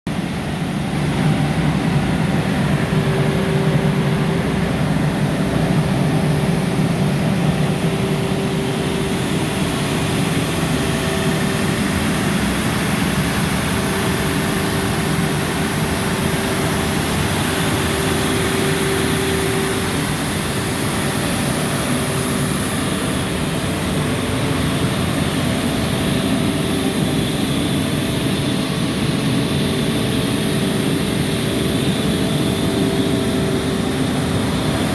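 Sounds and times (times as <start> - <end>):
diesel compressor engine running: 0.1 - 34.9.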